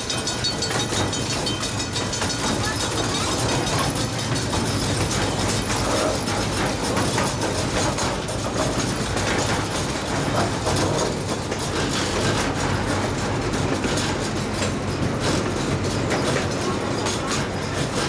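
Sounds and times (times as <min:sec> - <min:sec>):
train cars rolling rumble: 0:00.0 - 0:18.0
wheels clicking over rails: 0:00.0 - 0:18.0.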